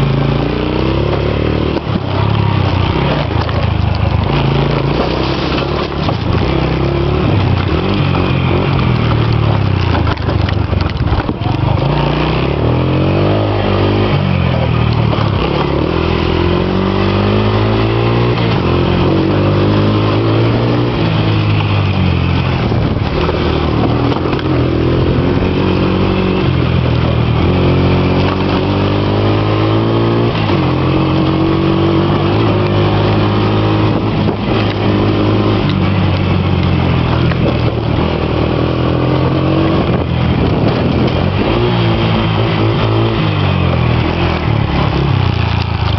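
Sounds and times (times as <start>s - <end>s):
vehicle engine revving: 0.0s - 45.9s.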